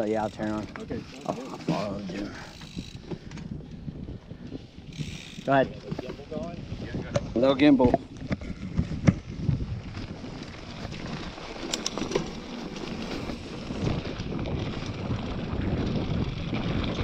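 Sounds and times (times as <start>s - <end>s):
bike clicks and rattles: 0.0s - 17.0s
wind noise on microphone: 0.0s - 17.0s.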